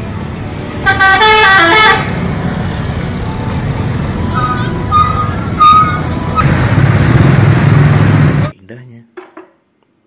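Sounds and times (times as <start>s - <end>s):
bus engine rumbling: 0.0s - 8.6s.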